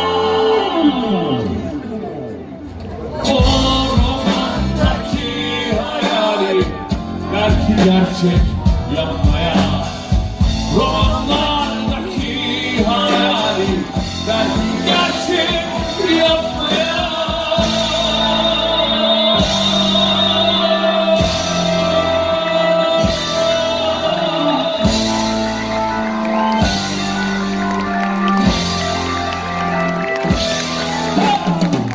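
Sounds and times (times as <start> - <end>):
bass notes: 0.0 - 31.9
drums: 2.7 - 31.9
rock band playing live: 3.0 - 31.9.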